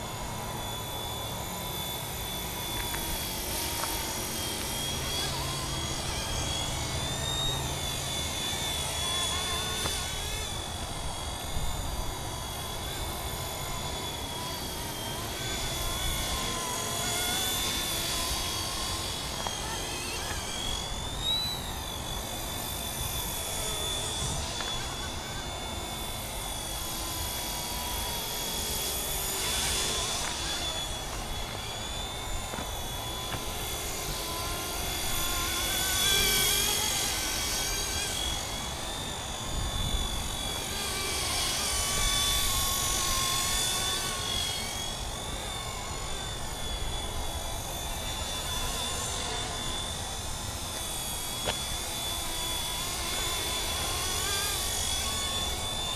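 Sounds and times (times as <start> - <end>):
model helicopter rotor whine: 0.0 - 55.9.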